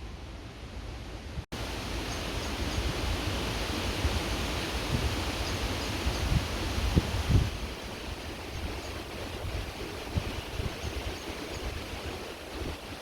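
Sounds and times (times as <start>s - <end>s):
wind rumbling on microphone: 1.3s - 13.0s
creek water rushing: 1.6s - 13.0s.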